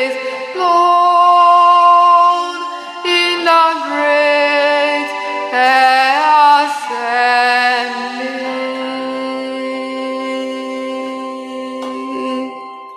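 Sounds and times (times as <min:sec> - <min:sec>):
musical accompaniment: 0:00.0 - 0:12.9
person singing: 0:00.0 - 0:12.9.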